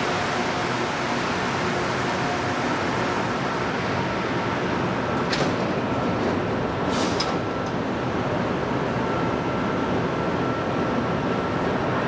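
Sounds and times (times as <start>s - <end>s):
station ventilation: 0.0s - 12.0s.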